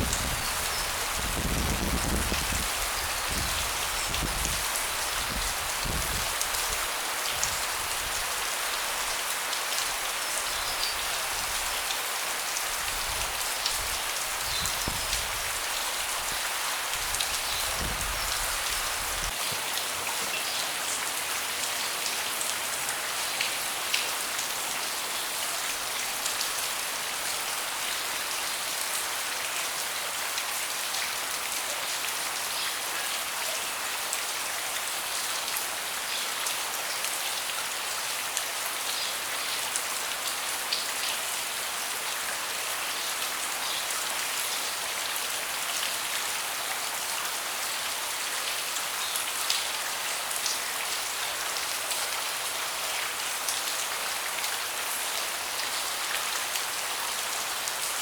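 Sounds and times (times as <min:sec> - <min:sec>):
rain falling on a deck: 0:00.0 - 0:58.0.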